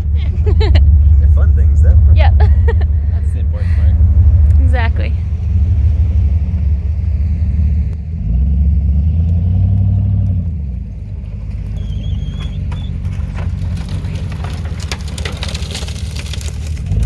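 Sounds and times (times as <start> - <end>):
truck engine pulling hard: 0.0 - 17.0.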